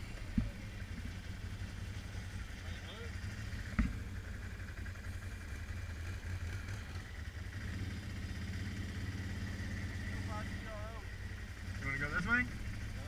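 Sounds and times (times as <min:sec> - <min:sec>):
atv engines running: 0:00.0 - 0:13.0.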